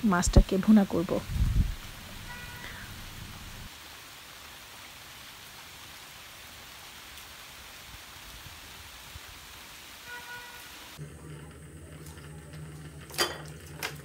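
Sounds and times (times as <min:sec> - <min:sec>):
rain falling on leaves: 0:00.5 - 0:13.0.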